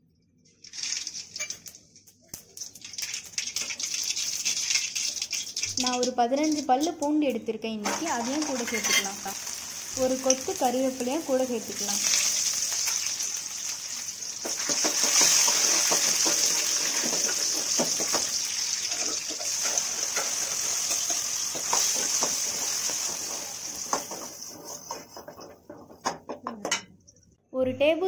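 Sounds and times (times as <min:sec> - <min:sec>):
garlic sizzling in hot oil: 0:00.7 - 0:01.8, 0:02.4 - 0:25.6.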